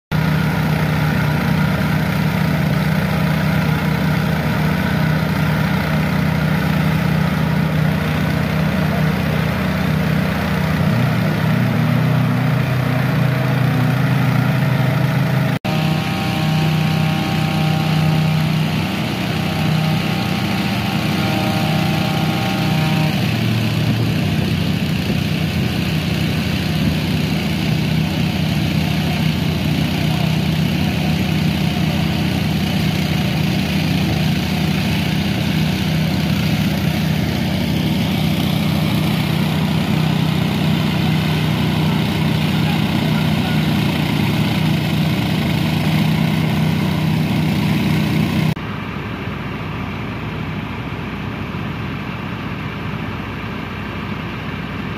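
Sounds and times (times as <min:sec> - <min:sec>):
small petrol pump engines running: 0:00.1 - 0:54.9.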